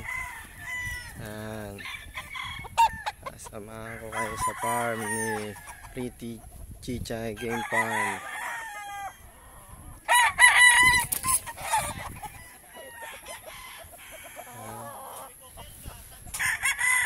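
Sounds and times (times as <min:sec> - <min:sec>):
roosters crowing: 0:00.0 - 0:06.6, 0:07.2 - 0:17.0.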